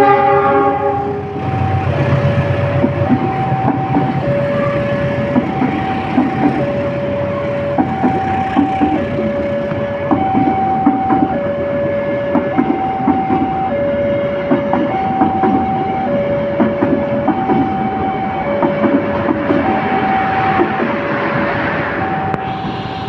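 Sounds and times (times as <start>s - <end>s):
two-tone electronic warning alarm: 0.0s - 23.0s
train wheels clacking over rails: 0.2s - 23.0s.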